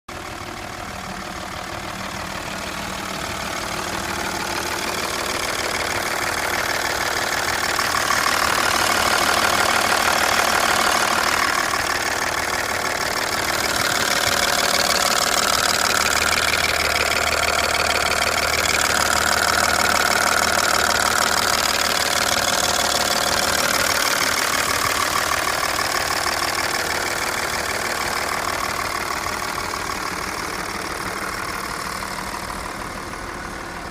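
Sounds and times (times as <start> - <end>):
diesel engine idling with knocking: 0.1 - 33.9.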